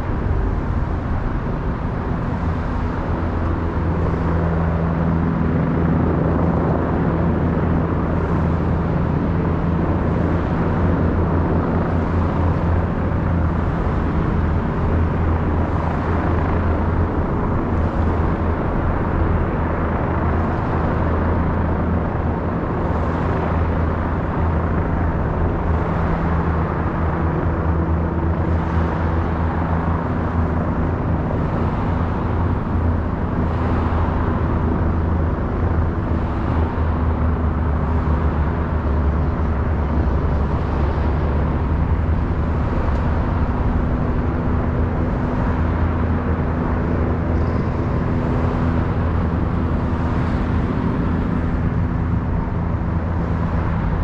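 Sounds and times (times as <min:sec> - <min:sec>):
low hum: 0:00.0 - 0:54.0
cars driving past on highway: 0:07.2 - 0:54.0.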